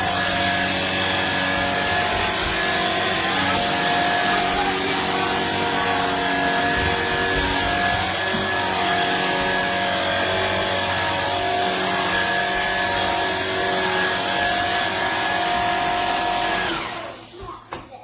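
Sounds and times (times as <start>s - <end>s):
vacuum cleaner running: 0.0s - 17.6s.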